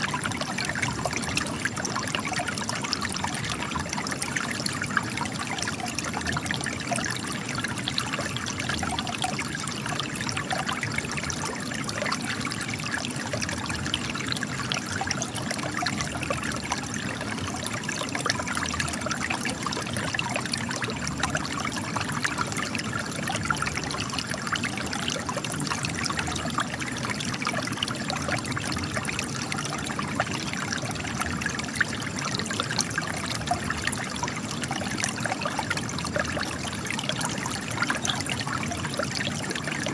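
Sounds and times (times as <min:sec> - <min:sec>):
spring water trickling over rocks: 0:00.0 - 0:39.9.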